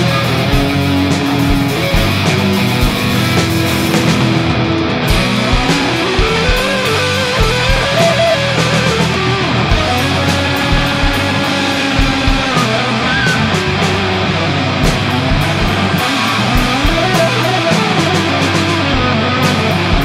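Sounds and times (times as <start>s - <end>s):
bass guitar: 0.0s - 20.0s
distorted electric guitars: 0.0s - 20.0s.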